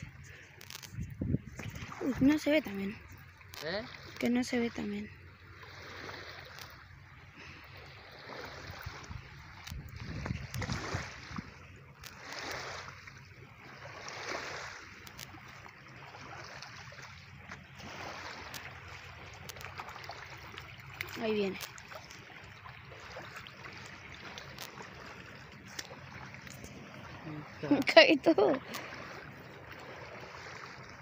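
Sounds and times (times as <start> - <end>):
waves lapping against rocks: 0.0 - 31.0.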